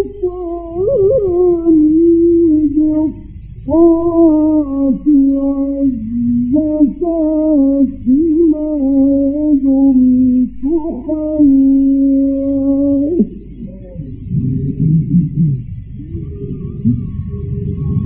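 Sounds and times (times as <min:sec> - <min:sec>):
man reciting melodically: 0:00.0 - 0:15.8
low recording hum: 0:00.0 - 0:18.0.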